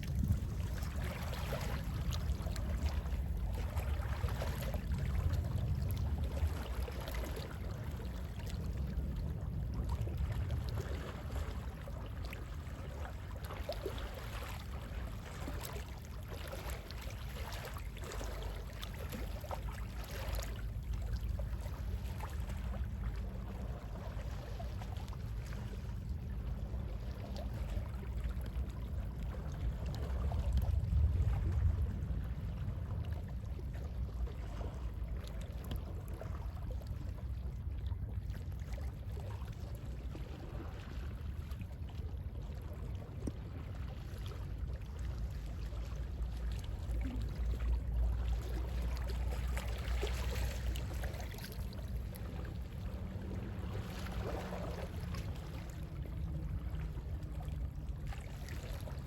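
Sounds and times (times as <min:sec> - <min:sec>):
low rumble of sea wind: 0:00.0 - 0:59.0.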